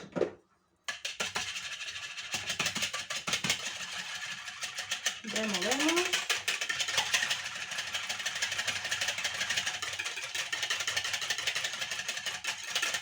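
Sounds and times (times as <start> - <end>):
utensil scraping and clicking in container: 0.9 - 13.0.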